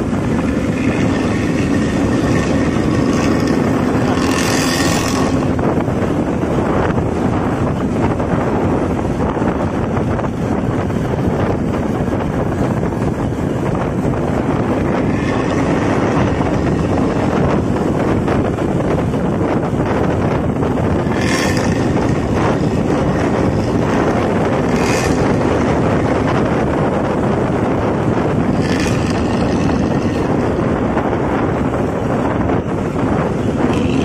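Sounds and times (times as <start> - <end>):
vehicle engine and road rumble: 0.0 - 34.0
wind buffeting microphone: 0.0 - 34.0.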